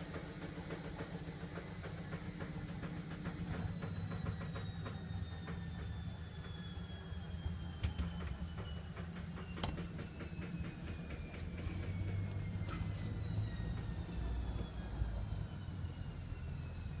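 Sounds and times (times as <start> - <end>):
exhaust fan running: 0.0 - 17.0.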